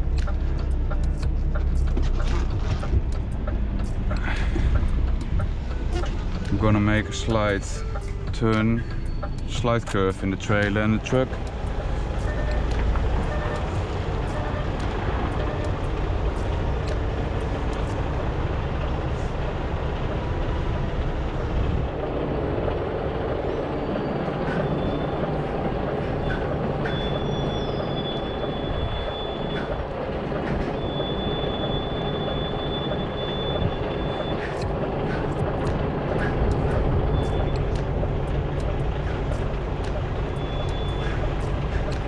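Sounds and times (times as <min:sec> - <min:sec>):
diesel truck engine at low revs: 0:00.0 - 0:42.0.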